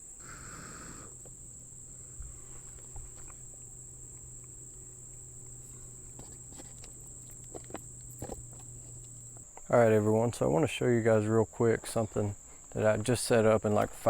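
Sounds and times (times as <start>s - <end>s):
crickets chirping: 0.0s - 14.0s
low steady hum: 0.0s - 14.0s.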